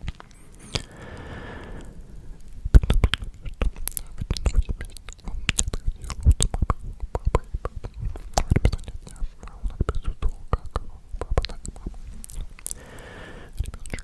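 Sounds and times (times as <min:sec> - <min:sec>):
mouth clicks and smacks: 0:00.0 - 0:14.0.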